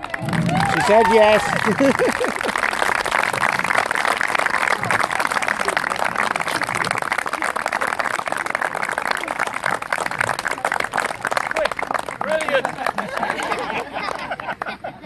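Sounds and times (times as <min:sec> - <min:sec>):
audience applauding: 0:00.0 - 0:15.0
crowd voices: 0:00.0 - 0:15.0.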